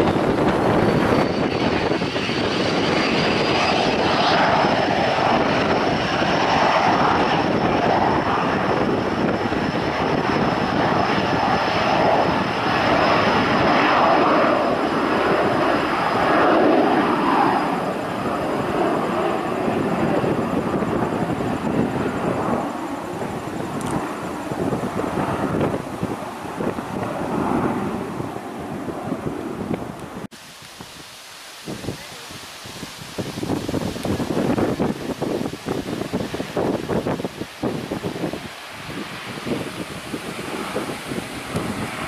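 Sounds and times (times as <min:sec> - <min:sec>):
high jet engine whine: 0:00.0 - 0:42.0
jet engines roaring on takeoff: 0:00.0 - 0:42.0.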